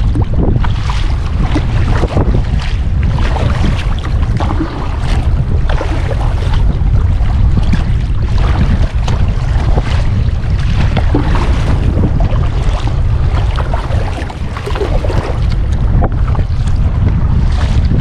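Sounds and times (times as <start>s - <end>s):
water splashing against kayak: 0.0s - 18.0s
wind buffeting microphone: 0.0s - 18.0s.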